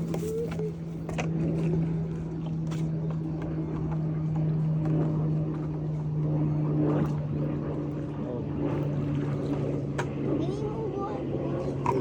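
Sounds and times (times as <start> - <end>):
motor running with low hum: 0.0 - 12.0.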